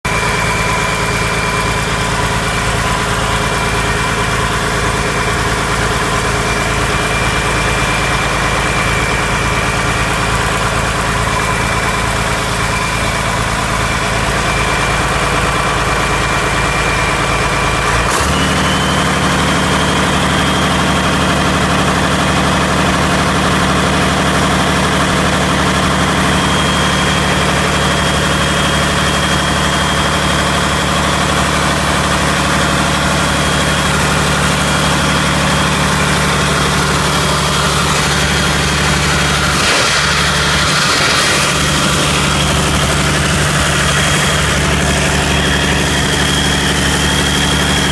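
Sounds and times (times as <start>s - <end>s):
diesel engine idling with whine: 0.0s - 47.9s.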